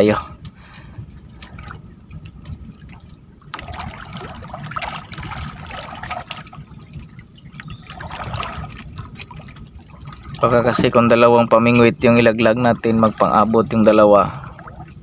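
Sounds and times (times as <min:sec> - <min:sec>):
small drips and clicks: 0:00.4 - 0:10.9, 0:11.6 - 0:15.0
water splashing and trickling: 0:00.6 - 0:15.0.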